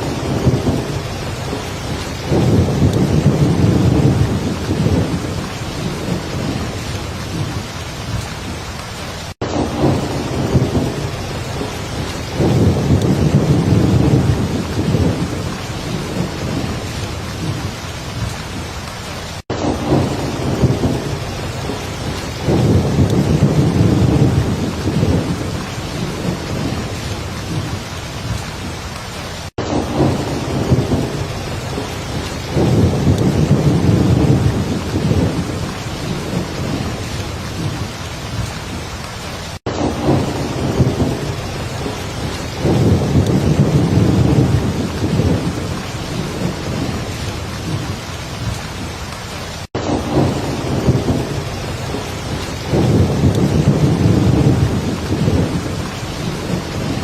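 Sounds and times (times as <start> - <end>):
low rolling thunder: 0.0 - 28.9, 29.6 - 48.9, 49.7 - 57.0
heavy rain falling: 0.0 - 57.0.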